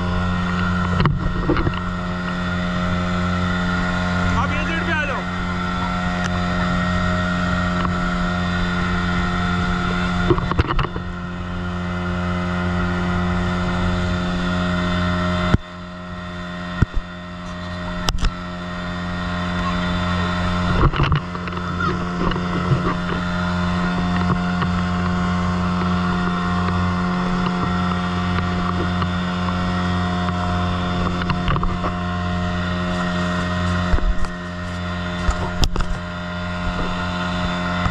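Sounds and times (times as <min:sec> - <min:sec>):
motorboat engine droning: 0:00.0 - 0:37.9
water washing along hull: 0:00.0 - 0:37.9.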